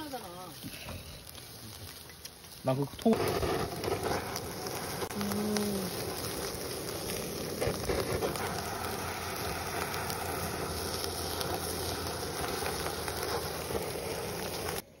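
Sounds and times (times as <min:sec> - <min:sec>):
butane torch hissing: 0:00.0 - 0:15.0
food sizzling and crackling: 0:00.0 - 0:15.0.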